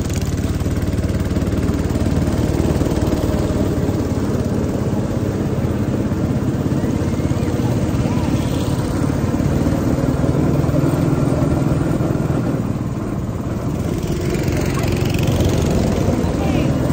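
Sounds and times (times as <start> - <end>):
small petrol engine running: 0.0 - 16.9.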